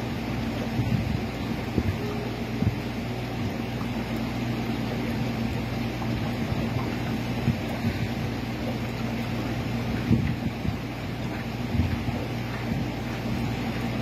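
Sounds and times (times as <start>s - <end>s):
aquarium filter and pumps humming: 0.0s - 14.0s
water bubbling: 0.0s - 14.0s.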